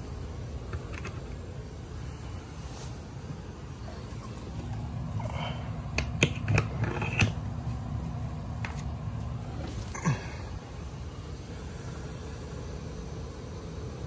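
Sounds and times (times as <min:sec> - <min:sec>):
blower running low rumble: 0:00.0 - 0:14.0.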